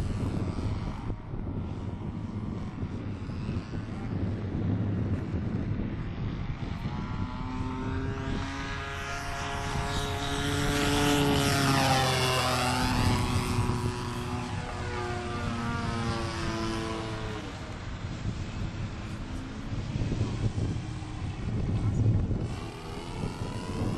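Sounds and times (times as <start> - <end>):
model airplane engine buzzing: 0.0 - 23.9.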